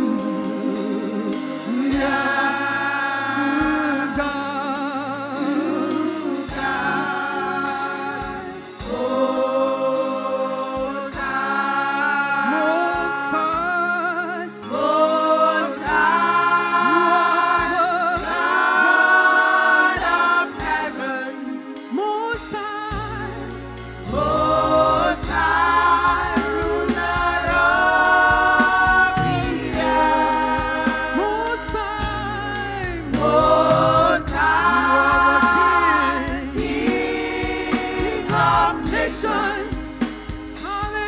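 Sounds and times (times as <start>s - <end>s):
gospel choir singing: 0.0s - 41.0s
instrumental accompaniment: 0.0s - 41.0s.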